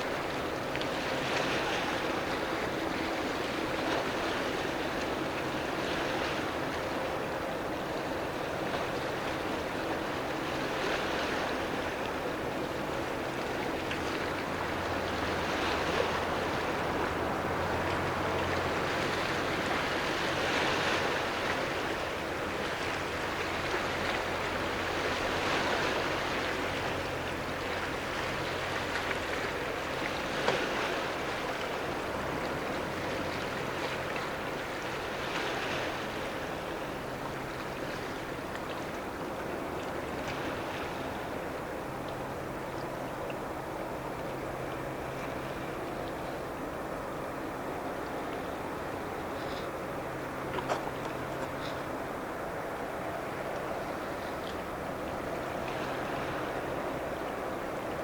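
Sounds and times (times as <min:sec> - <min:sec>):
waves washing against harbour edge: 0:00.0 - 0:58.0.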